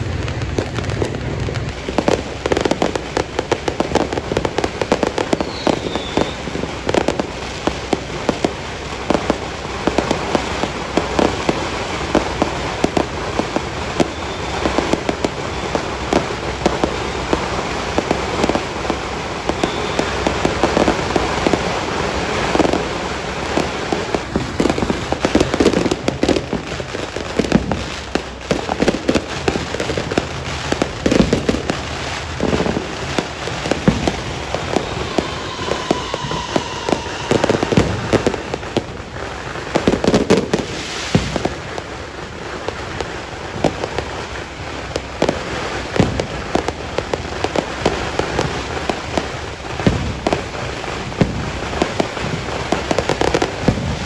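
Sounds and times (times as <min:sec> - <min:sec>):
firework whistle: 0:00.0 - 0:54.0
fireworks bangs and crackling: 0:00.0 - 0:54.0
fireworks booming: 0:00.0 - 0:54.0.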